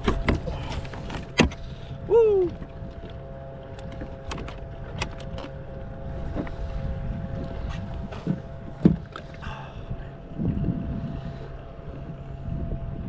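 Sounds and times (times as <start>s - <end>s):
water against kayak: 0.0s - 13.0s
wind on microphone: 0.0s - 13.0s.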